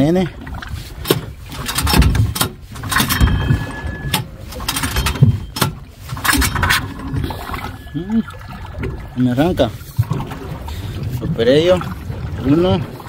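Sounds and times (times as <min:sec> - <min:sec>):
low rumbling wash: 0:00.0 - 0:13.0
sharp knocks and splashes: 0:00.0 - 0:13.0
water slapping against boat hull: 0:00.0 - 0:13.0.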